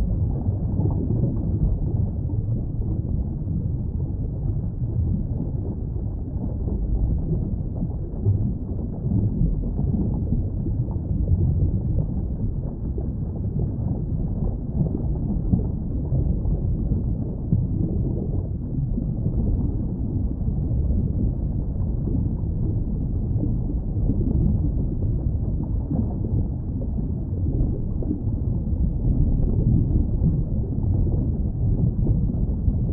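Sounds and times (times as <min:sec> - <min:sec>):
muffled underwater rumble: 0:00.0 - 0:32.9.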